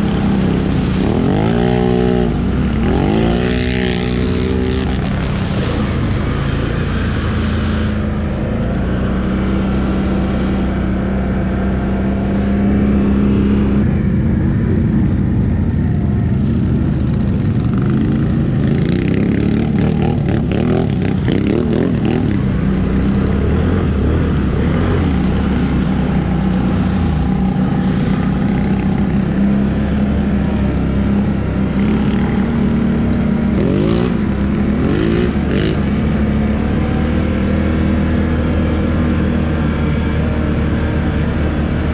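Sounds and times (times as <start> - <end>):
atv engine revving: 0.0 - 13.9, 14.8 - 41.9.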